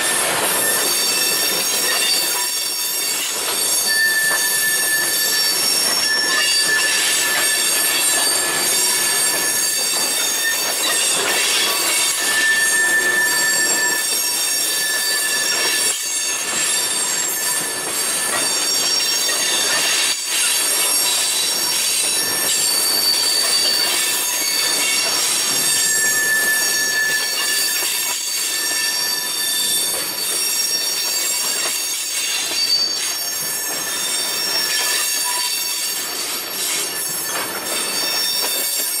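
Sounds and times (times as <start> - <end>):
rumble of train cars: 0.0 - 39.0
train wheels squealing: 0.0 - 39.0.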